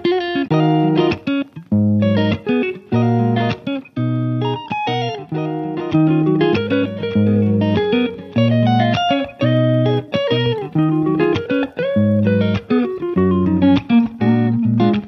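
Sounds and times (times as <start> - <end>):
plucked melody: 0.0 - 15.0.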